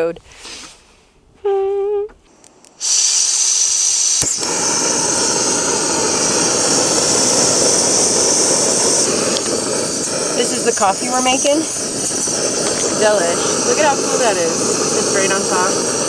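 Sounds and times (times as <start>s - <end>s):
stove burner hissing: 2.7s - 16.0s.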